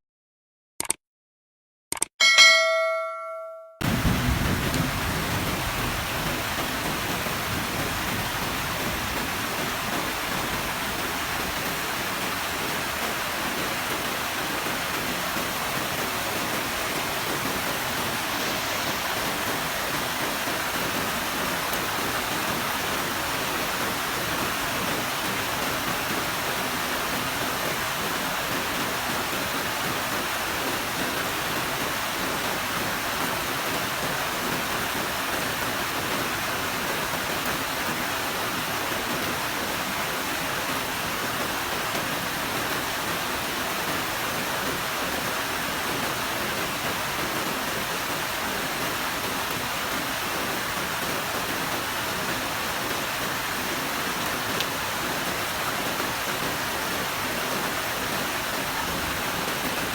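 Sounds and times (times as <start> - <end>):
heavy rain falling: 3.8 - 59.9.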